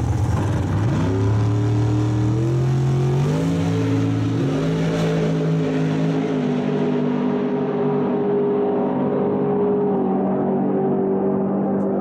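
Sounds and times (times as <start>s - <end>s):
drag racing car engine accelerating: 0.0s - 12.0s.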